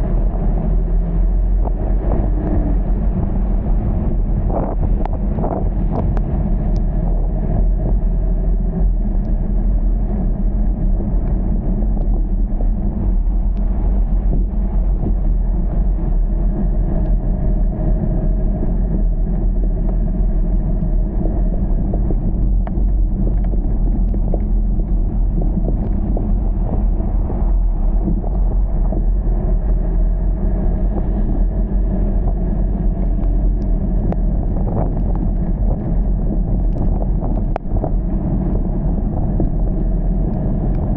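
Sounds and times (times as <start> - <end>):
moving car rumble: 0.0 - 40.9
wind buffeting microphone: 0.0 - 40.9.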